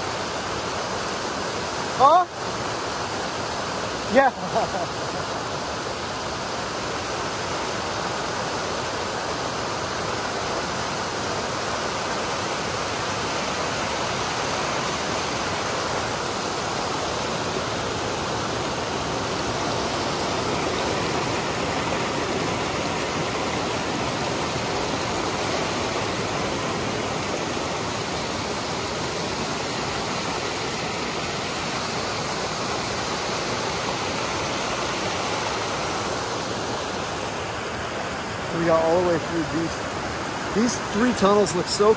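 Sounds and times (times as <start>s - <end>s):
creek rushing over rocks: 0.0s - 41.9s.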